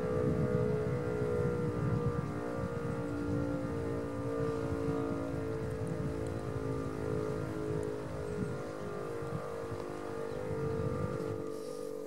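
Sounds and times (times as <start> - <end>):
electric motor siren: 0.0 - 12.0
wind rumbling on microphone: 0.0 - 12.0.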